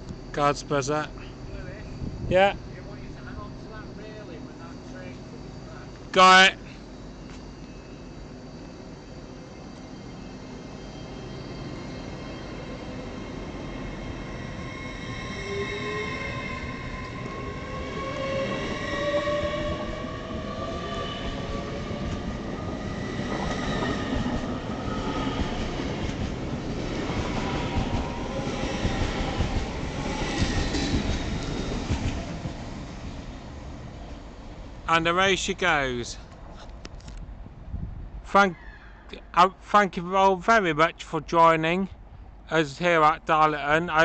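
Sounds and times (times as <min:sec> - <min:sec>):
train traction whine rising: 0:00.0 - 0:37.3
train rumble: 0:00.0 - 0:38.5.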